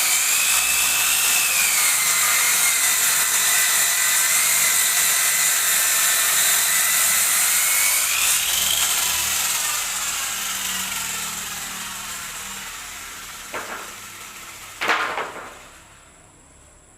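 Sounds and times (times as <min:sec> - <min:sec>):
circular saw cutting wood: 0:00.0 - 0:16.1.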